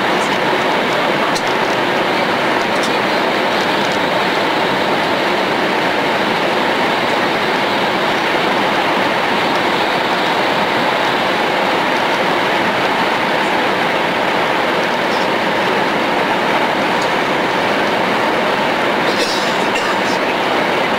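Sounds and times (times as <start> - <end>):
high-speed train rushing: 0.0 - 20.9.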